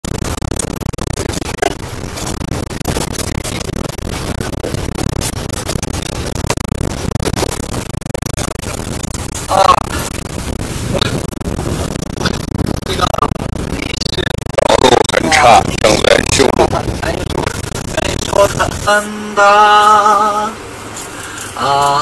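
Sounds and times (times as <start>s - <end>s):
bus engine and road noise: 1.2s - 22.0s.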